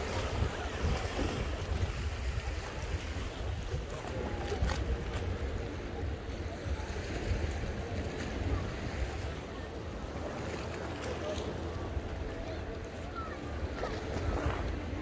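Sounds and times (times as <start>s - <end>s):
sea surf: 0.0s - 15.0s
wind buffeting microphone: 0.0s - 15.0s.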